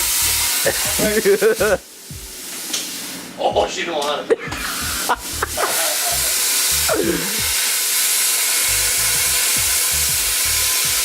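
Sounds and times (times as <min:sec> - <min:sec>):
plasma cutter hissing: 0:00.0 - 0:03.4, 0:04.5 - 0:11.0.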